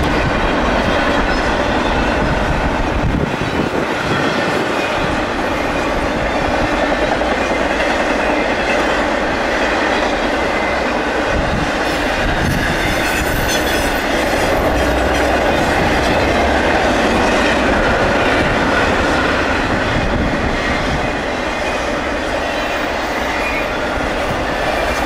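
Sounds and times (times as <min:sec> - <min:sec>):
freight train wheels on track: 0:00.0 - 0:25.0.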